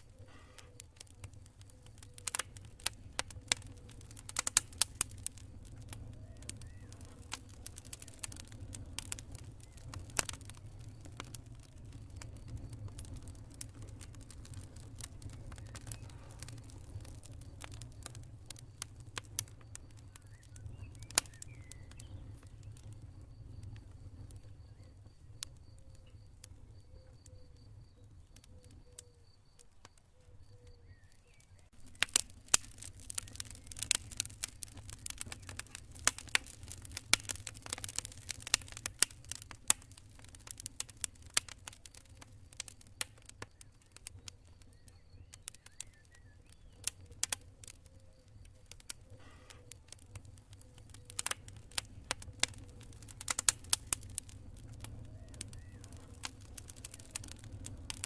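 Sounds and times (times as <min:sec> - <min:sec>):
campfire crackling and popping: 0:00.0 - 0:58.0
cricket chirping: 0:05.4 - 0:58.0.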